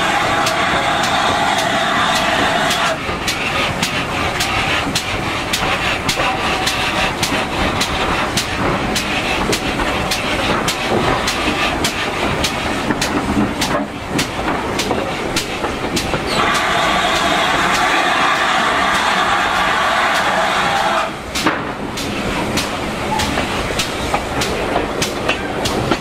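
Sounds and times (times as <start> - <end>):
rhythmic sharp clicks: 0.0 - 26.0
steam hiss: 0.0 - 26.0
train rumbling: 0.0 - 26.0.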